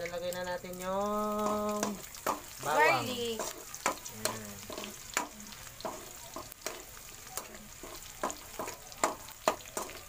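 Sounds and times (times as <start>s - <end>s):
frying sizzle: 0.0s - 10.0s.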